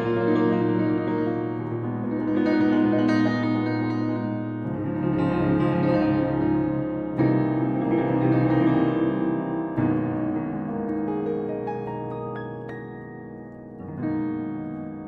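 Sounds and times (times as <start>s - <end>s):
solo piano tune: 0.0s - 15.0s.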